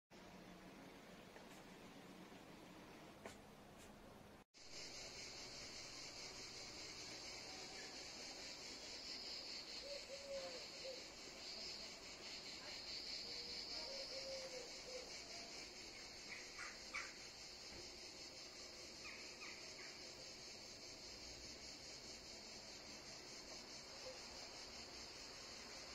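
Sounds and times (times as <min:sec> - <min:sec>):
high-pitched insect chorus: 0:04.6 - 0:25.9.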